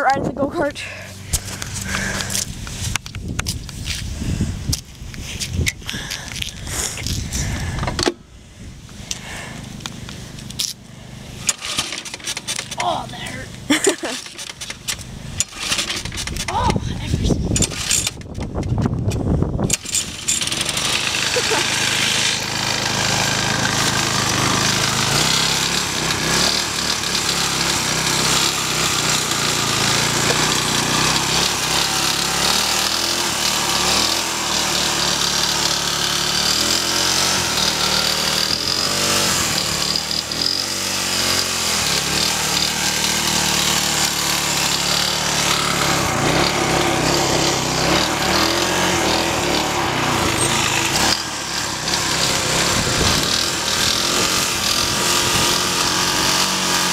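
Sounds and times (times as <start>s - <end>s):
small engine running hard: 0.0s - 56.9s.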